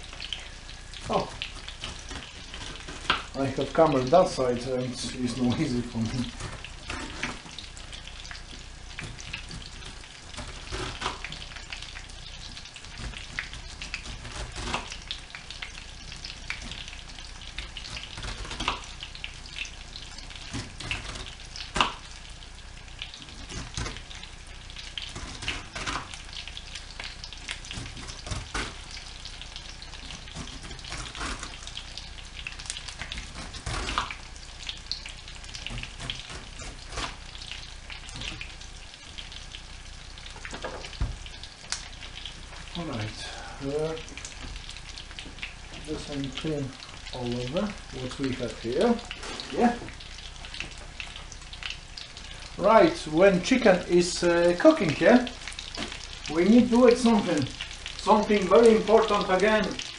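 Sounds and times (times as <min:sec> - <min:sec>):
chicken sizzling in oil: 0:00.0 - 0:59.9.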